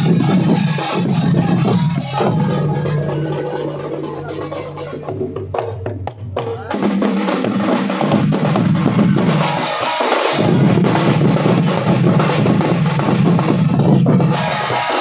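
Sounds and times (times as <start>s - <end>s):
brass hand cymbals: 0.0s - 5.1s, 6.9s - 15.0s
barrel drums beaten with sticks: 0.0s - 15.0s.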